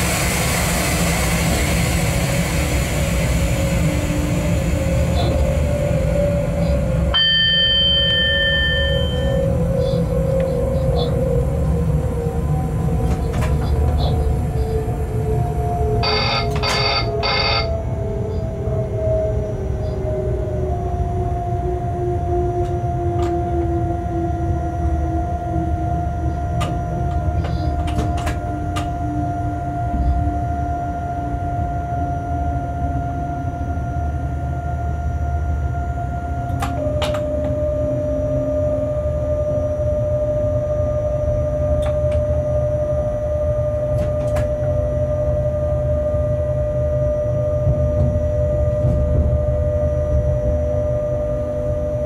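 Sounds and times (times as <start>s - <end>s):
train rumbling: 0.0s - 52.0s
whining tone: 3.3s - 52.0s.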